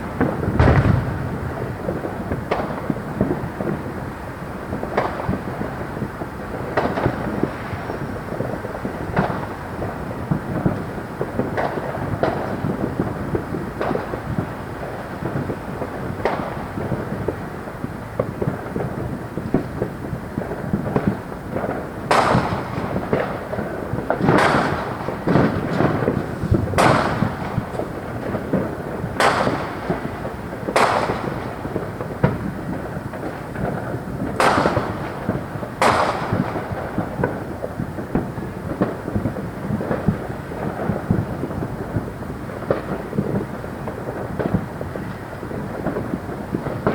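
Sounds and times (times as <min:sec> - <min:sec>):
distant fireworks booms: 0:00.0 - 0:46.9
fireworks bangs and cracks: 0:00.0 - 0:46.9.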